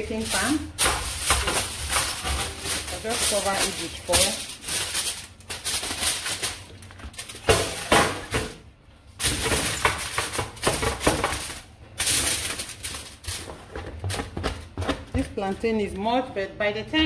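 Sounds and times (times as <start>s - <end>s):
plantain slices pattering onto foil: 0.0s - 8.6s, 9.2s - 15.5s
aluminium foil crinkling: 0.0s - 15.5s.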